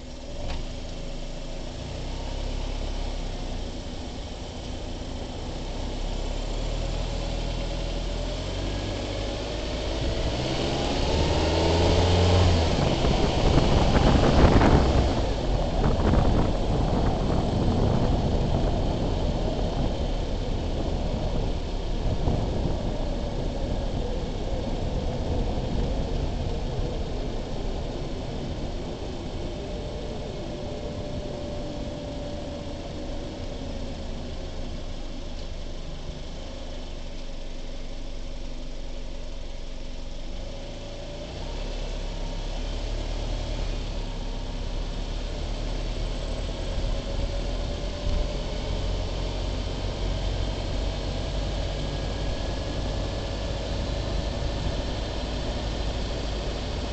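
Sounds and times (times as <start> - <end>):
car engine driving slowly: 0.0 - 56.9.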